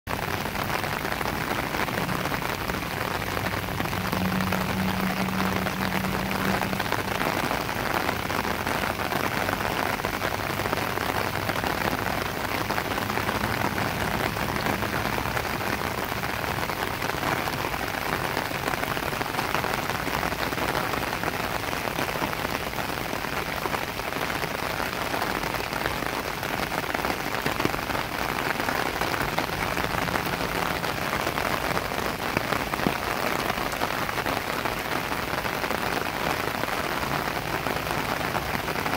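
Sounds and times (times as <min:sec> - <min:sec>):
rain falling on pavement: 0:00.0 - 0:38.9.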